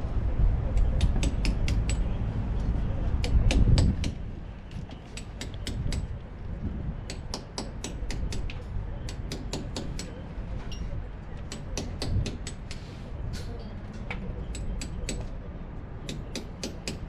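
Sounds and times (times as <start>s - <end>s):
wind rumble on microphone: 0.0s - 15.9s.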